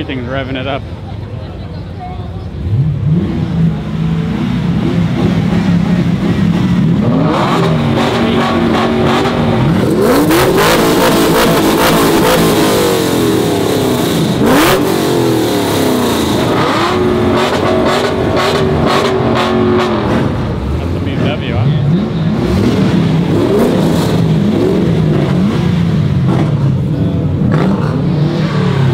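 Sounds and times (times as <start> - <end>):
car engine revving: 2.5 - 28.9.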